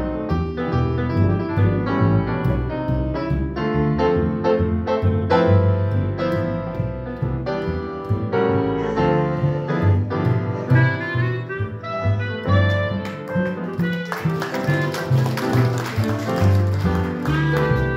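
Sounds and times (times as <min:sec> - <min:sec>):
piano chords and runs: 0:00.0 - 0:17.9
plucked upright bass: 0:00.0 - 0:17.9.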